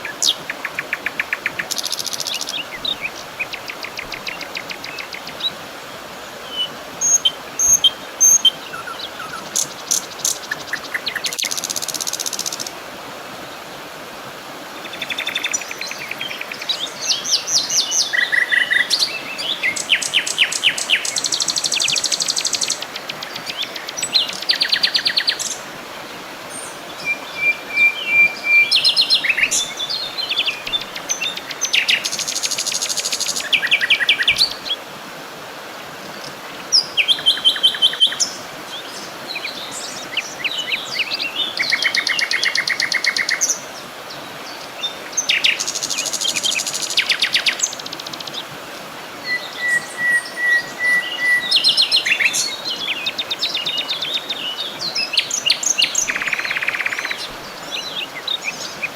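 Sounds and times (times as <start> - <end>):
songbirds singing with trills: 0.0 - 5.6, 6.4 - 12.7, 14.8 - 25.7, 26.4 - 34.8, 36.1 - 48.6, 49.2 - 58.9
background hiss: 0.0 - 58.9.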